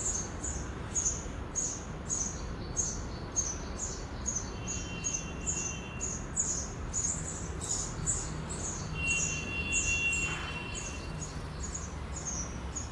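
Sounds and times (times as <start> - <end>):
sparrows chirping: 0.0 - 12.9.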